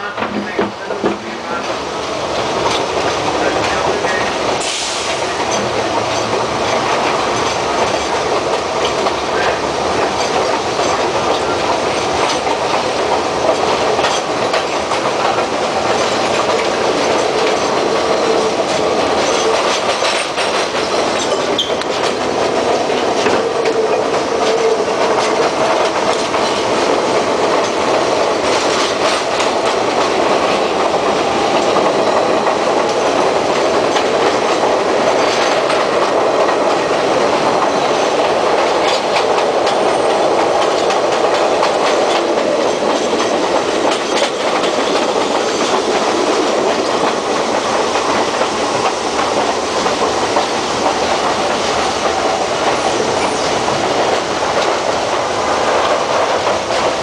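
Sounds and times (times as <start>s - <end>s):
clickety-clack over rail joints: 0.0s - 57.0s
subway train wheels rumbling on rails: 0.0s - 57.0s.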